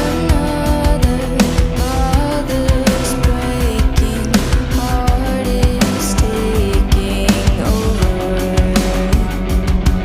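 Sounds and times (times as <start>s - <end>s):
distorted rock guitar: 0.0s - 10.0s
steady drum beat: 0.0s - 10.0s.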